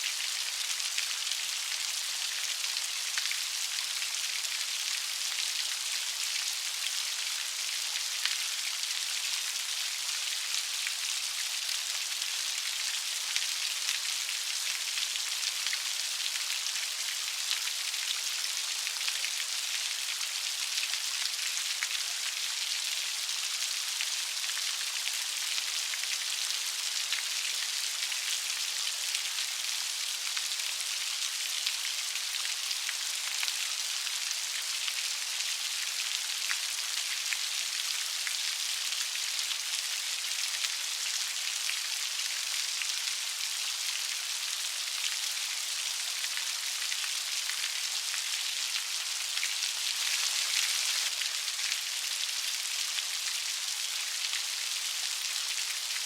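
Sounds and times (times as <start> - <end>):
light rain falling: 0.0 - 56.0.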